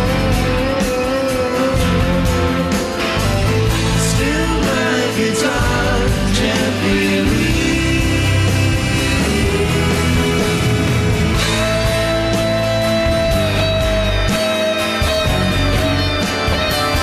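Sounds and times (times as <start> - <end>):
electric guitar lead notes: 0.0 - 17.0
live rock band playing: 0.0 - 17.0.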